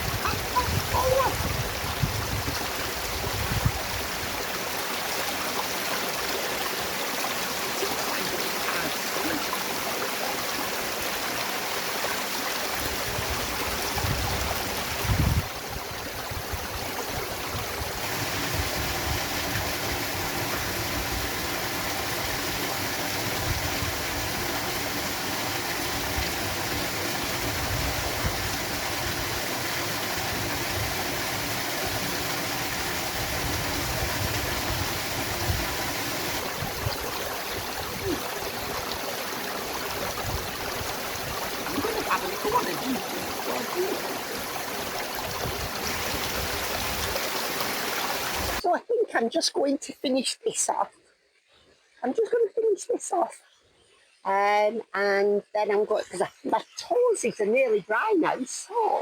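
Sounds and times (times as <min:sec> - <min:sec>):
small waterfall rushing: 0:00.0 - 0:48.6.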